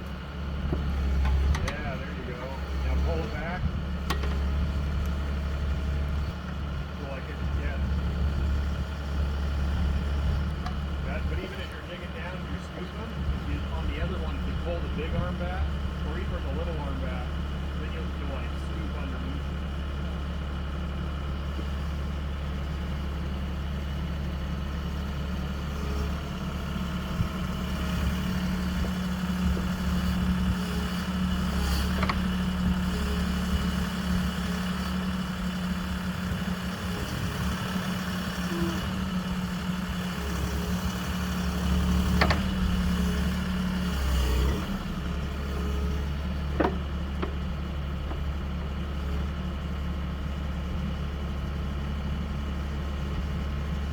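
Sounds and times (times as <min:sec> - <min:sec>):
backhoe engine running: 0:00.0 - 0:53.9.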